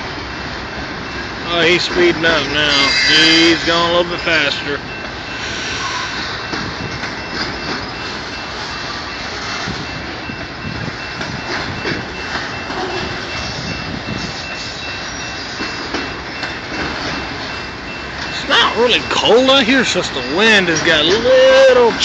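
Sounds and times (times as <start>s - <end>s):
freight train rumble and rattle: 0.0s - 22.0s.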